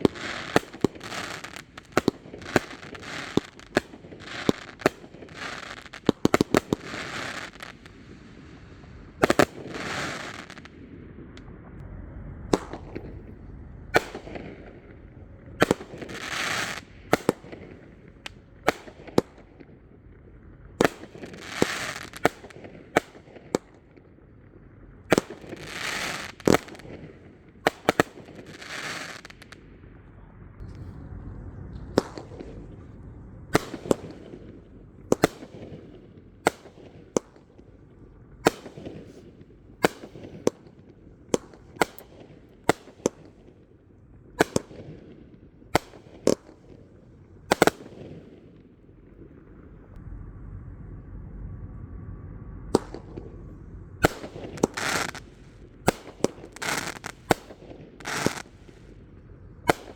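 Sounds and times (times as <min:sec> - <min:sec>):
hissing firework bursts: 0:00.0 - 0:11.0, 0:12.5 - 0:19.7, 0:20.8 - 0:23.8, 0:25.1 - 0:29.6, 0:30.6 - 0:43.7, 0:44.4 - 0:45.0, 0:45.6 - 0:48.4, 0:52.7 - 0:59.9
firework bangs: 0:00.0 - 0:50.2, 0:50.8 - 0:59.9.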